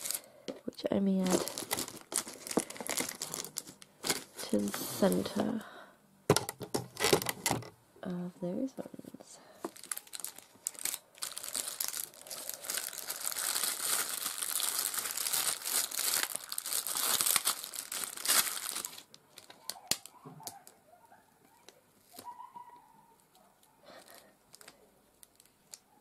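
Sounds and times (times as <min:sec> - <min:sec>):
plastic film crinkling: 0:00.0 - 0:05.6, 0:06.4 - 0:07.7, 0:09.6 - 0:20.8, 0:21.5 - 0:26.0.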